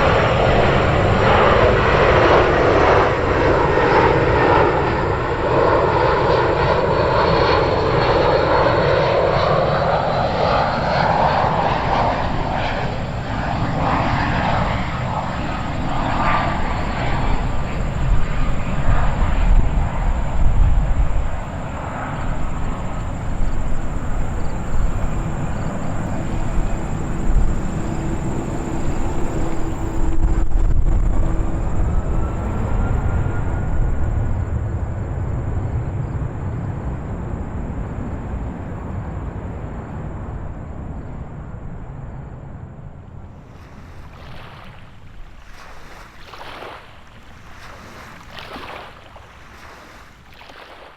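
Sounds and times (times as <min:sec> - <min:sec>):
wind buffeting microphone: 0:00.0 - 0:50.3
jet airliner engines passing: 0:00.0 - 0:50.9.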